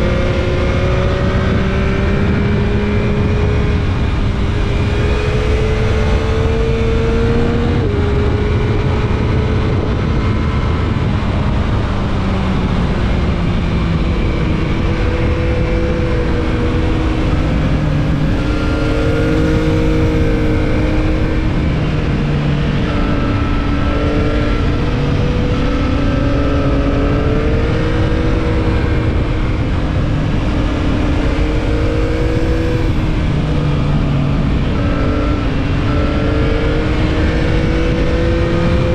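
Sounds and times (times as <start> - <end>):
motorcycle engine revving: 0.0 - 38.9
wind rush over microphone: 0.0 - 38.9.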